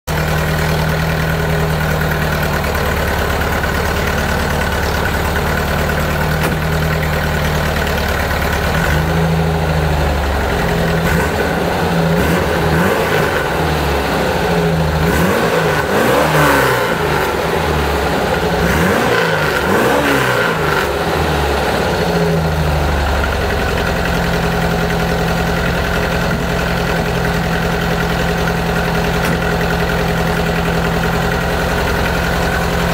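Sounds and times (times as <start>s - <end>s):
car engine idling and revving: 0.1s - 32.9s.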